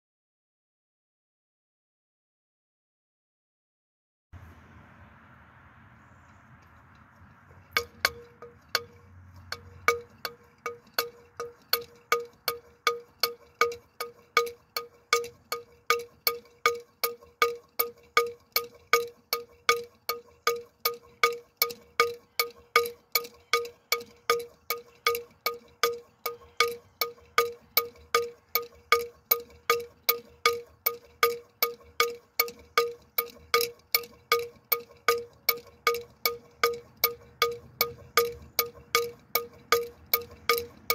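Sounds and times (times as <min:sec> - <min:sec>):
bell swinging and ringing: 0:07.6 - 0:40.9.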